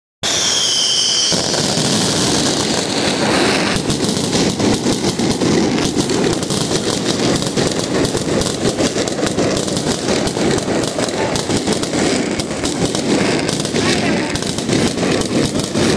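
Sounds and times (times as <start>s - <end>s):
firework whistle: 0.2s - 15.9s
fireworks crackling and banging: 0.2s - 15.9s.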